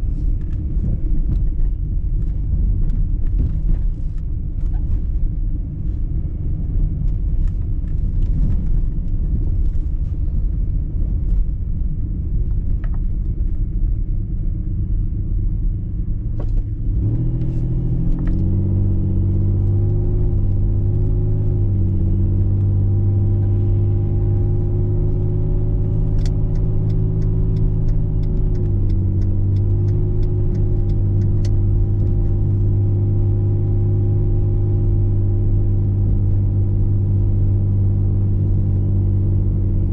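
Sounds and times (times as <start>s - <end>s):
car engine drone: 0.0s - 39.9s
low road rumble: 0.0s - 39.9s.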